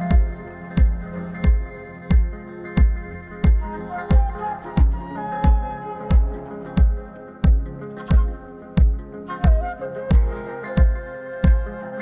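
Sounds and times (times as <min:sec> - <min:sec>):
deep kick drum: 0:00.1 - 0:11.7.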